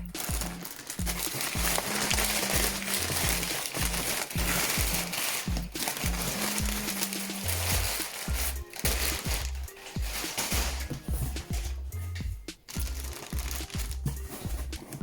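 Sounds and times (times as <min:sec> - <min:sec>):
background music with low thumping beat: 0:00.0 - 0:15.0
packaging rustling and crinkling: 0:00.0 - 0:15.0.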